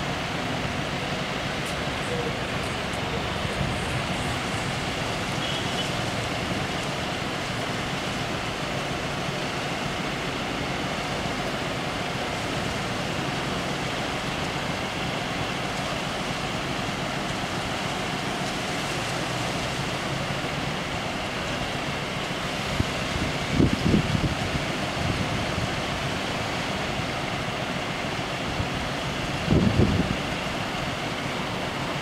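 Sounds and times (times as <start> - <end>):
vehicle engines idling: 0.0 - 32.0.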